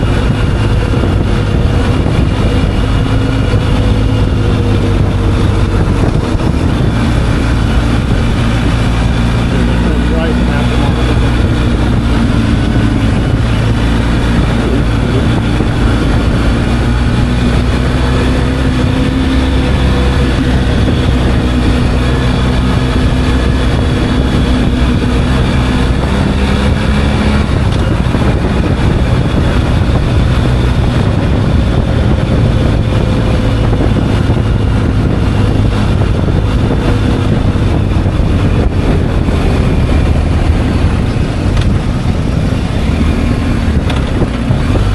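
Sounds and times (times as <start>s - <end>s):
motorcycle engine running: 0.0s - 44.9s
rushing noise: 0.0s - 44.9s.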